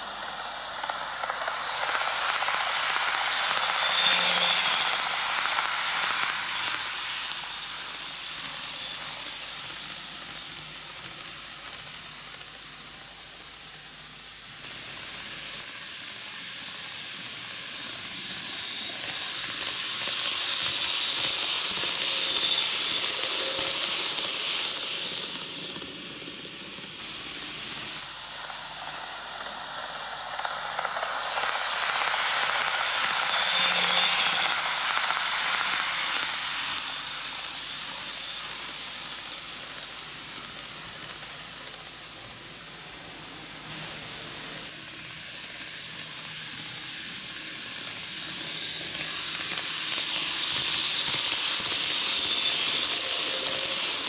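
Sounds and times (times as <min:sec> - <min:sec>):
model train wheels hissing on rails: 0:00.0 - 0:54.0.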